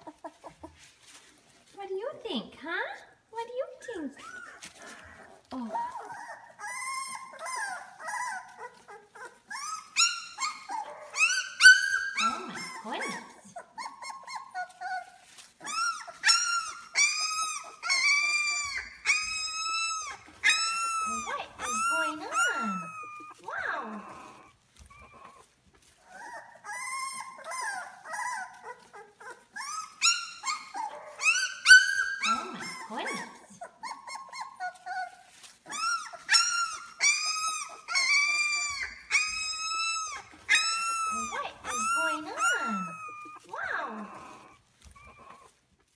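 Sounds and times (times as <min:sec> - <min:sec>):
puppies whining and crying: 0:00.0 - 0:01.4, 0:03.9 - 0:45.9.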